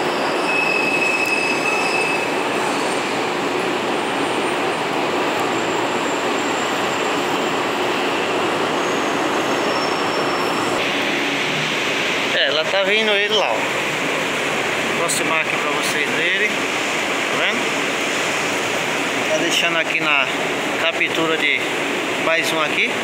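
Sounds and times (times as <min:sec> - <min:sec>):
buses and cars passing: 0:00.0 - 0:23.0.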